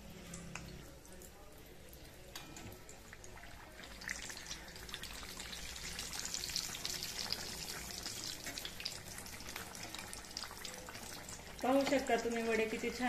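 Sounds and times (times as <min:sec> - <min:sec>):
deep-frying sizzle with pops: 0:00.0 - 0:13.0.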